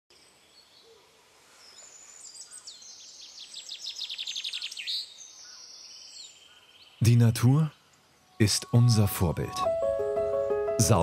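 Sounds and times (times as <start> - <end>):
faint outdoor hiss: 0.1 - 11.0
songbird singing: 0.1 - 11.0.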